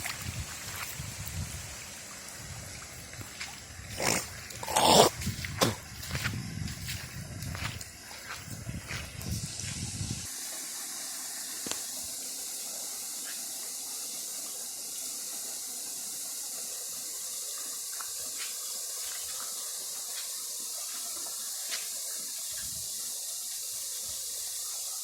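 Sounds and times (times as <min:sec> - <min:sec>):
hiss of water: 0:00.0 - 0:25.0.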